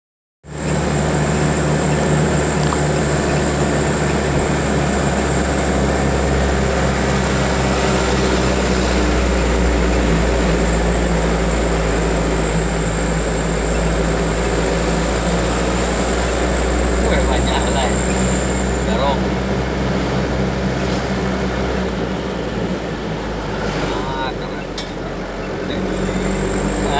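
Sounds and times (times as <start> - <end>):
car engine drone: 0.4 - 26.9
road noise: 0.4 - 26.9
high-pitched whine: 0.5 - 26.9.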